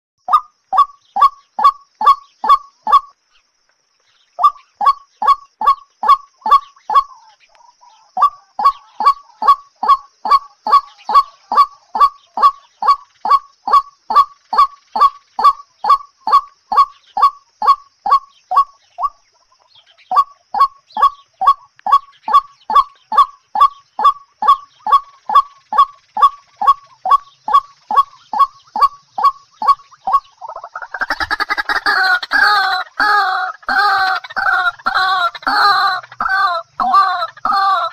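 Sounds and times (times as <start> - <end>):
waterhen croaking calls: 0.2 - 3.2, 4.3 - 37.9.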